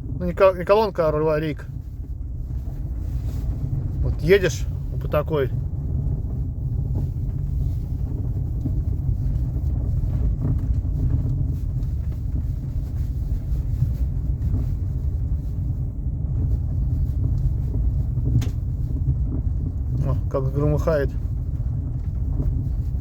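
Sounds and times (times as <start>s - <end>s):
low road rumble: 0.0s - 23.0s.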